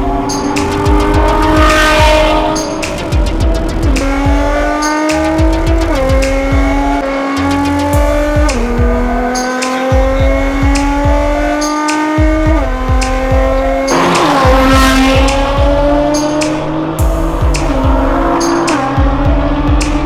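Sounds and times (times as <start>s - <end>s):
car engine accelerating: 0.0s - 20.0s
music with steady beat: 0.0s - 20.0s.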